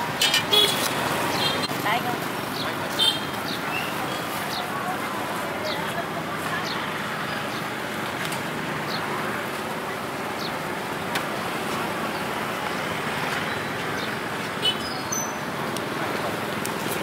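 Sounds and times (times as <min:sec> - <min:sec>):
hubbub of voices: 0:00.0 - 0:17.0
road traffic: 0:00.0 - 0:17.0.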